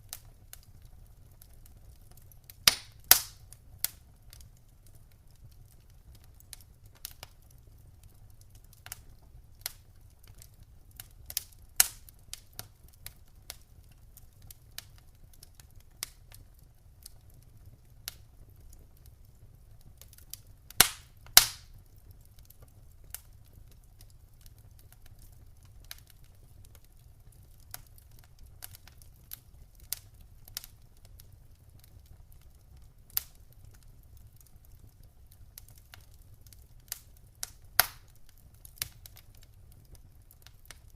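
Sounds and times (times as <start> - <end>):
faint low fire rumble: 0.0 - 40.9
fire pops and snaps: 0.0 - 40.9.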